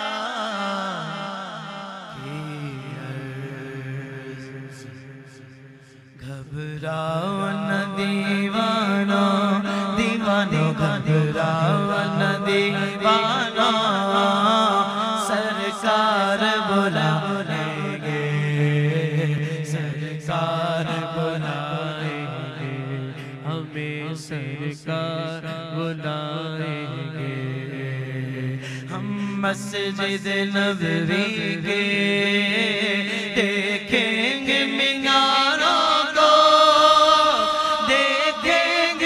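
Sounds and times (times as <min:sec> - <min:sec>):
men singing into microphones: 0:00.0 - 0:04.8, 0:06.2 - 0:39.0.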